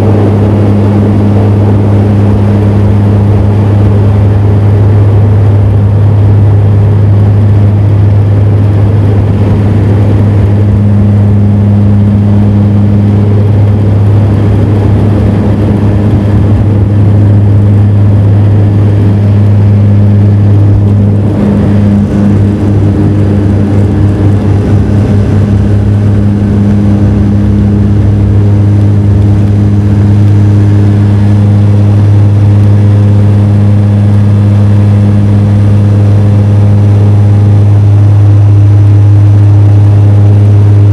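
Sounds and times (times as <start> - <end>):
turboprop engine drone: 0.0 - 40.9.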